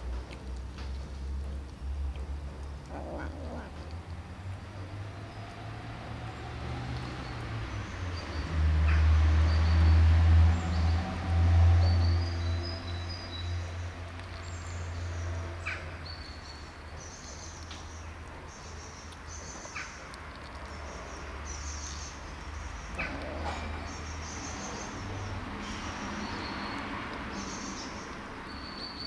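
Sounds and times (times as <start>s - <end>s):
kittens eating wet food: 0.0s - 29.0s.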